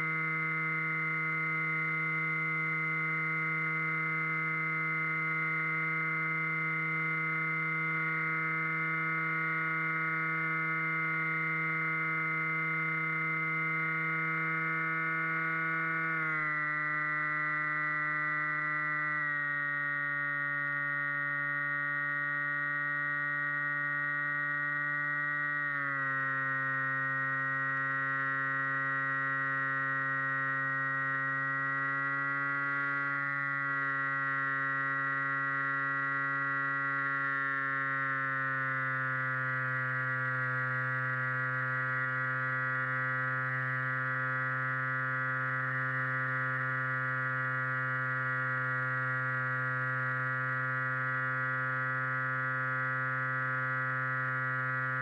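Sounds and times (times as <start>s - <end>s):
motor and propeller whine: 0.0s - 55.0s.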